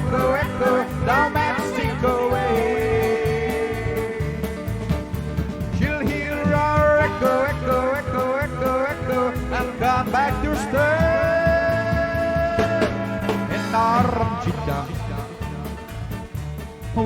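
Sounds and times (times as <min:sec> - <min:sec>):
live country band playing: 0:00.0 - 0:17.0
sliding bending lead melody: 0:00.0 - 0:17.0.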